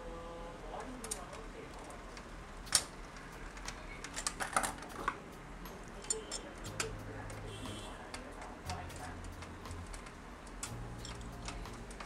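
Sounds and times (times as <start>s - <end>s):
computer parts clicking and tapping: 0.8s - 12.0s.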